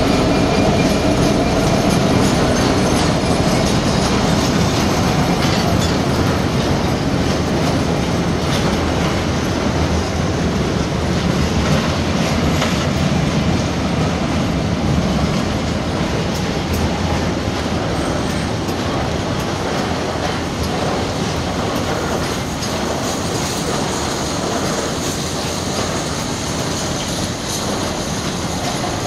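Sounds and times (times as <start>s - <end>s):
freight train wheels rumbling on rail: 0.0s - 29.0s
wheels clicking over rail joints: 0.0s - 29.0s.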